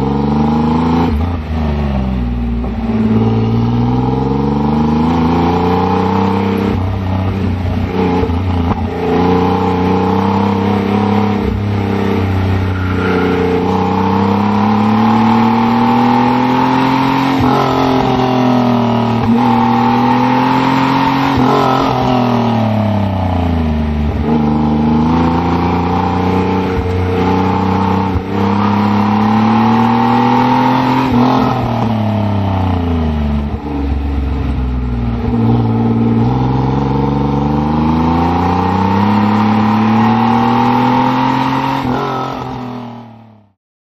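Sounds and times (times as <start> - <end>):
car engine revving: 0.0 - 43.6.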